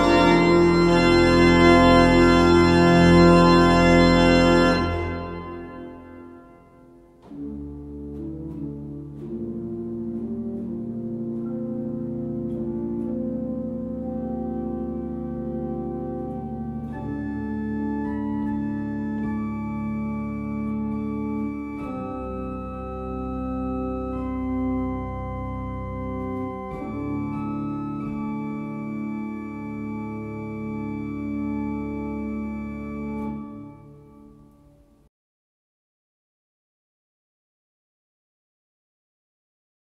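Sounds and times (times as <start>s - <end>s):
deep bass organ note: 0.0s - 34.4s
pipe organ chords: 0.0s - 35.1s.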